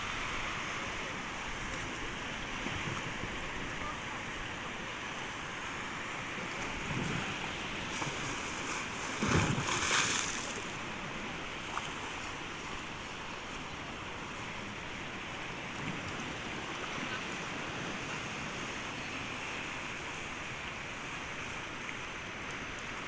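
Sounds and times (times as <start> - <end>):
sea waves washing onto beach: 0.0 - 23.0.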